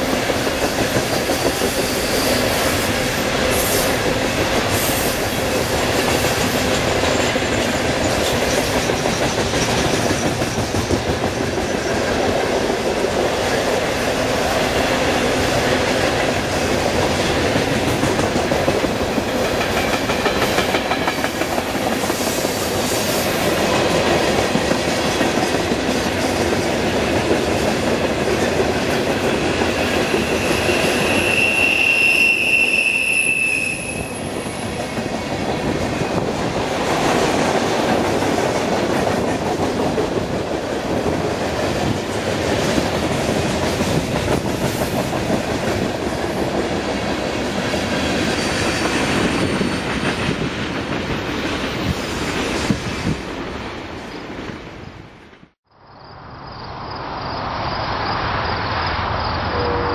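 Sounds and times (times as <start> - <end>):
freight train wheels rumbling: 0.0 - 55.6.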